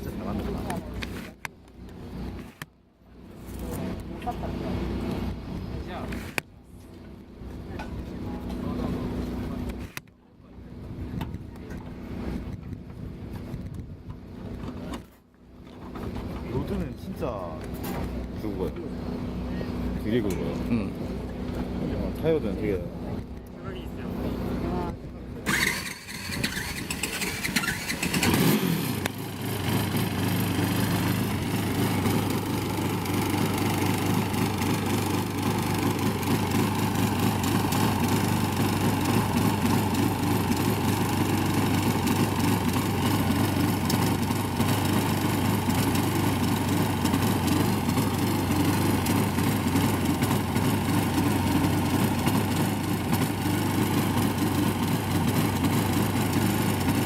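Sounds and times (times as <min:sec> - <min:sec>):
race car engine running: 0:10.6 - 0:57.0.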